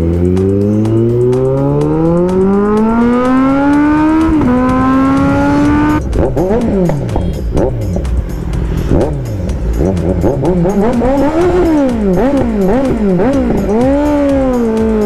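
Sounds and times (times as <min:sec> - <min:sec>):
motorcycle engine accelerating: 0:00.0 - 0:15.0
vehicles passing: 0:00.0 - 0:15.0.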